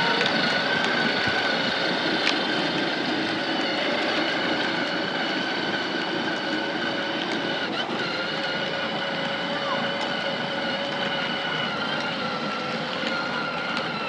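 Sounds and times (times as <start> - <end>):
atv engine whine: 0.0 - 14.0.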